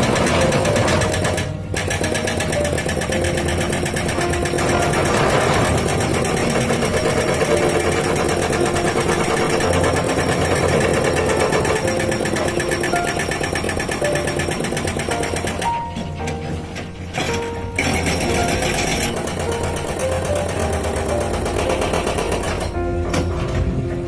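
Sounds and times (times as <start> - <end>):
hydraulic rock breaker hammering: 0.0 - 23.7.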